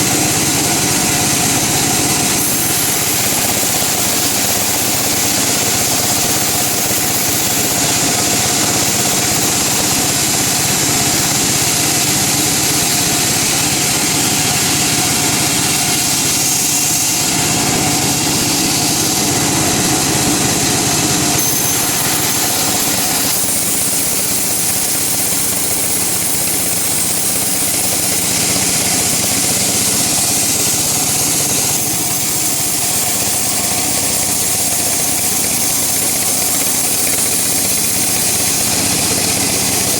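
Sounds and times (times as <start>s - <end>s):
woodworking machinery droning: 0.0s - 39.9s.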